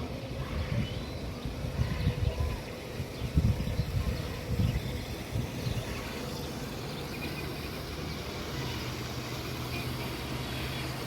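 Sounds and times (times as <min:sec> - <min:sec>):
low drone: 0:00.0 - 0:11.0
low motor hum: 0:00.0 - 0:11.0.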